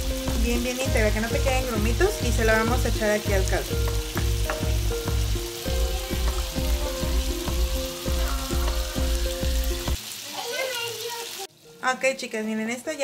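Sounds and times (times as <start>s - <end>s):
sauce simmering hiss: 0.0s - 11.7s.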